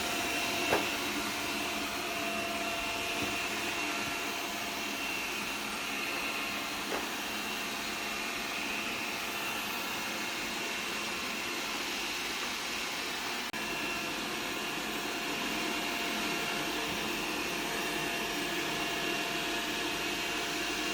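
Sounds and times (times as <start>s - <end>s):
robot vacuum whirring: 0.0s - 20.9s.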